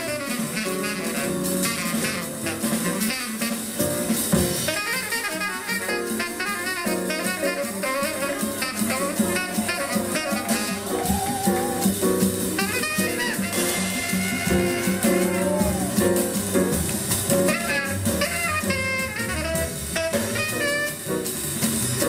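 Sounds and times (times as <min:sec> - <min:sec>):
saxophone: 0:00.0 - 0:21.3
drum kit: 0:00.0 - 0:22.0.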